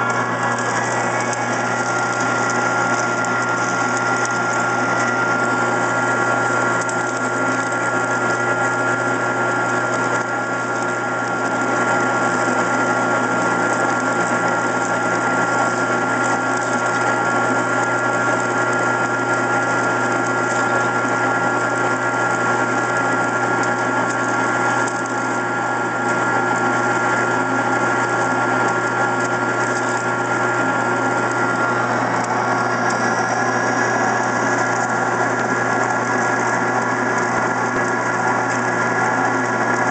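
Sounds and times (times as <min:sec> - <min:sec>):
metal lathe humming: 0:00.0 - 0:39.9.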